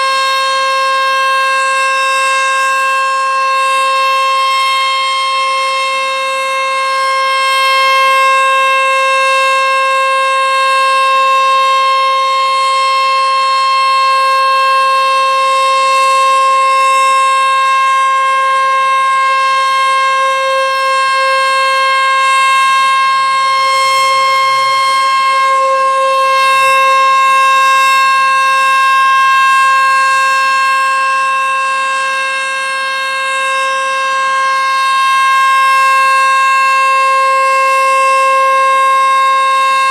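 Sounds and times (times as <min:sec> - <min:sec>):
storm warning siren steady tone: 0:00.0 - 0:39.9.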